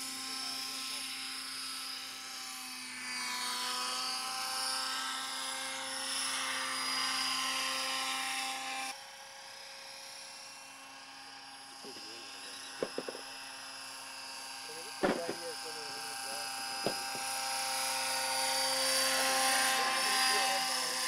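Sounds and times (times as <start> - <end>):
model helicopter whine: 0.0 - 21.0.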